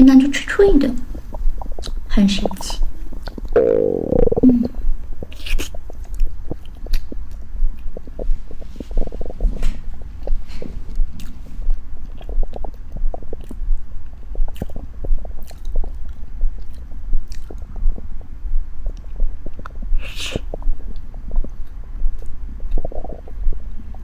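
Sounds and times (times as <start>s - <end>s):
low steady hum: 0.0s - 24.0s
close-up chewing: 1.0s - 24.0s.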